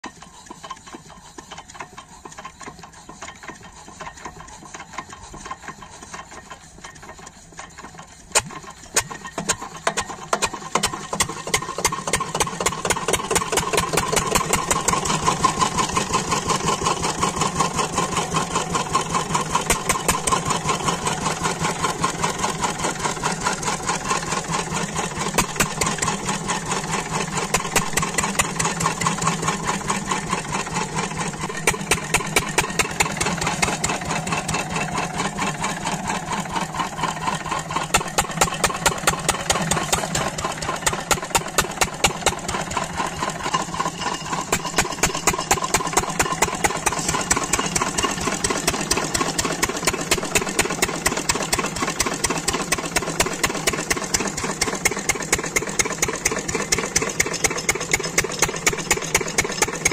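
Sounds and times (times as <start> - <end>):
diesel engine starting and running: 0.0 - 59.9.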